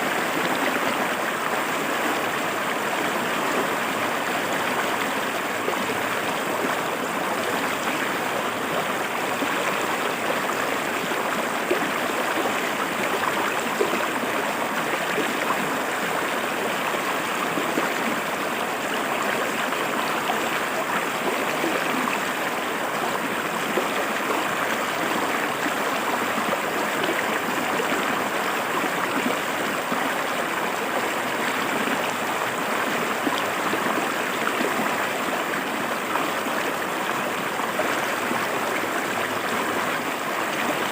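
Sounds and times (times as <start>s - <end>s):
river running over rocks: 0.0s - 40.9s.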